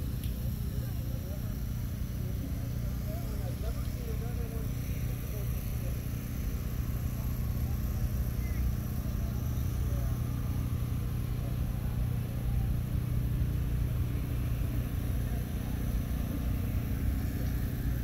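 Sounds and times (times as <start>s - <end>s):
faint voices: 0.0s - 18.0s
low engine drone: 0.0s - 18.0s.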